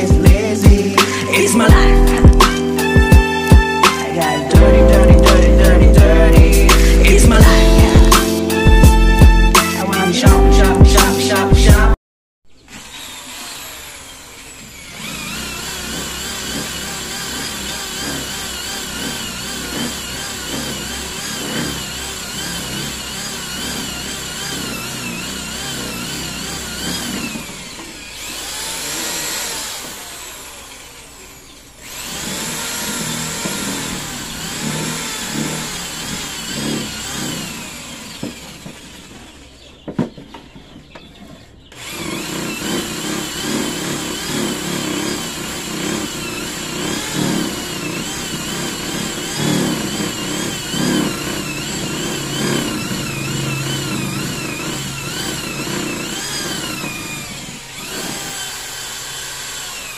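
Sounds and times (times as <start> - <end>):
electric drill boring into wood: 0.0 - 10.3, 12.6 - 39.8, 41.7 - 59.9.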